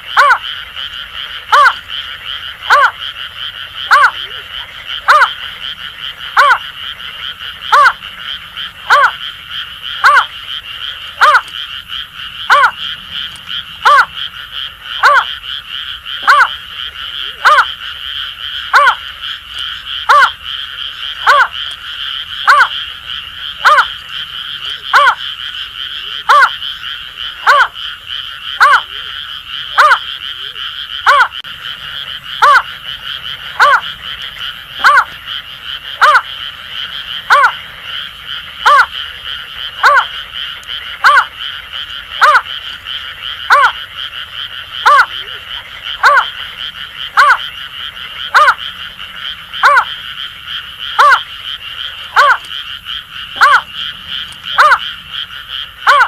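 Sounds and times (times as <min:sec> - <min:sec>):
frogs chorus: 0:00.0 - 0:56.0.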